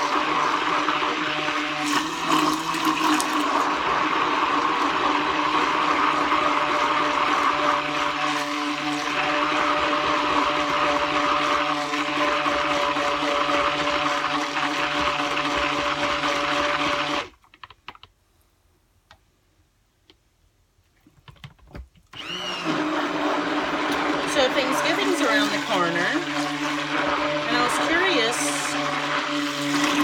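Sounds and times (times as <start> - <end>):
stick blender motor running: 0.0 - 17.3, 22.2 - 30.0.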